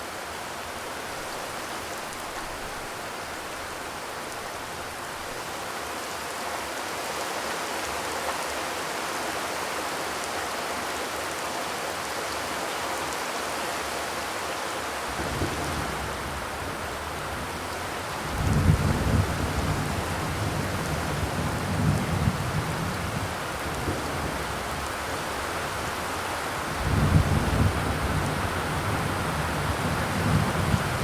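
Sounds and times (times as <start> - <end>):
rain drumming on a metal roof: 0.2 - 31.0.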